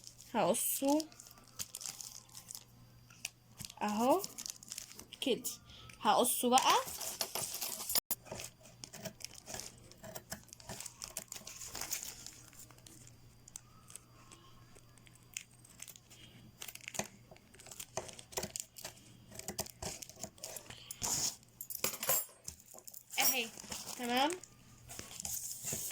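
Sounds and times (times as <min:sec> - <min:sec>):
cellophane crinkling: 0:00.0 - 0:21.4, 0:22.6 - 0:25.9.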